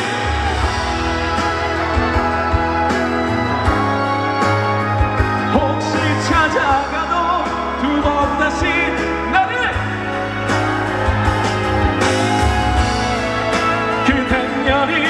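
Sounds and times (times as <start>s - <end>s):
live band playing pop ballad: 0.0s - 15.0s.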